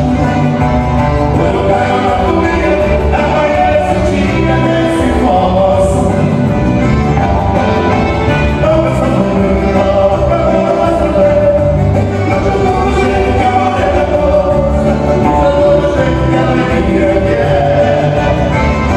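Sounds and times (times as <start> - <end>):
man singing into a microphone: 0.0 - 6.6, 8.3 - 18.9
accordion: 0.0 - 18.9
electric bass: 0.0 - 18.9
keyboard: 0.0 - 18.9.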